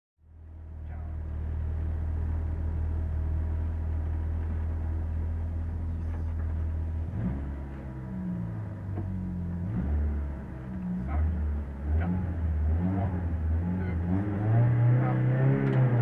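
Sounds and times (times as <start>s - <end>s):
car engine idling: 0.2s - 14.1s.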